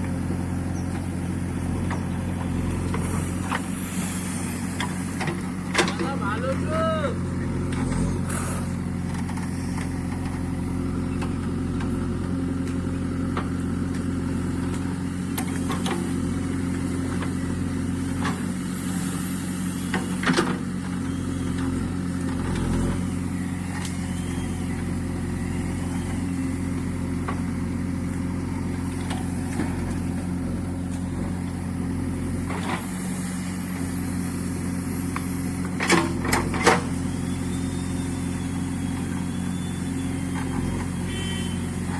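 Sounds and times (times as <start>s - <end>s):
heavy vehicle engine idling: 0.0s - 41.9s.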